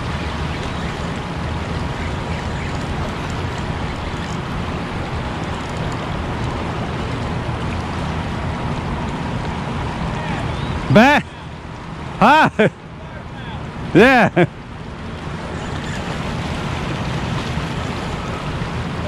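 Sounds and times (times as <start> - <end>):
roar of rushing river: 0.0 - 19.0.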